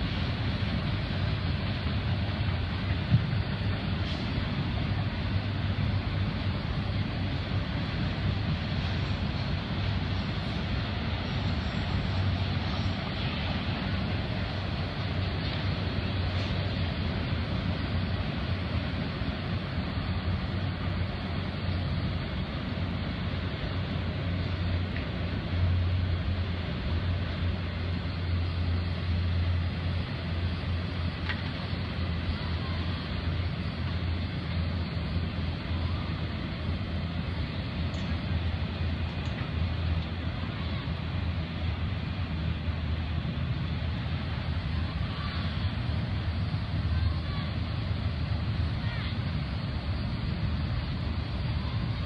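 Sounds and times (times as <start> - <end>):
freight train rumbling: 0.0 - 52.0.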